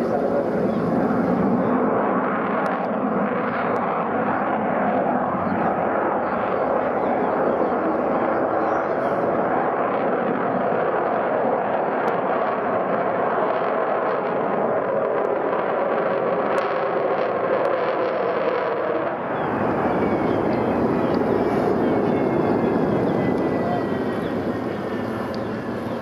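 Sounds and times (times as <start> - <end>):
jet aircraft flying past: 0.0 - 26.0.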